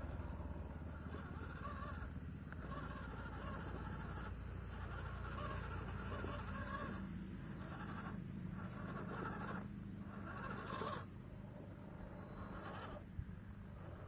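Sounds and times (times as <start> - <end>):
electric motor and gearbox whining: 0.0 - 14.0.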